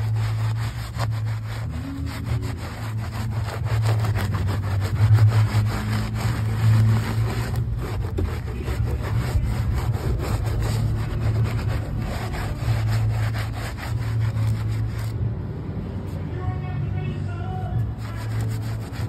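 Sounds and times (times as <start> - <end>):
scrubber scrubbing wet carpet: 0.0 - 15.2, 17.8 - 19.0.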